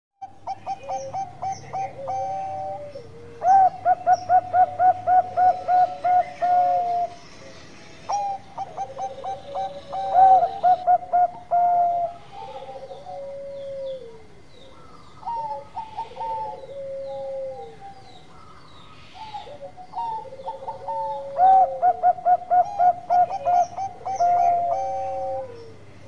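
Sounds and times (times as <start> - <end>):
dove cooing: 0.2 - 7.2, 8.1 - 25.9.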